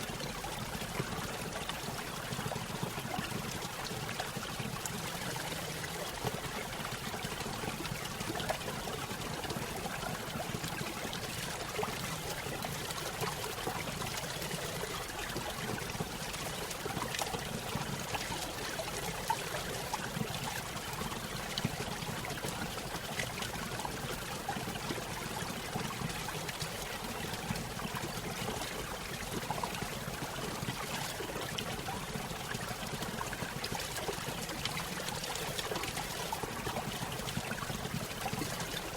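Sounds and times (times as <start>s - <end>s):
stream trickling over small waterfall: 0.0s - 38.9s.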